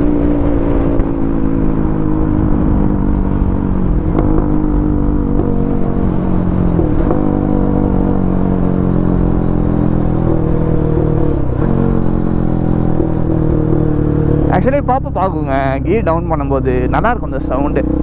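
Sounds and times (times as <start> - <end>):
motorcycle engine with loud exhaust: 0.0 - 18.0.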